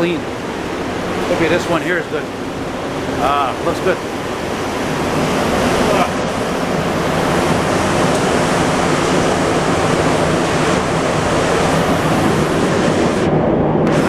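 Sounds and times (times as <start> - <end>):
low hum: 0.0 - 14.0
subway car rolling roar: 0.0 - 14.0.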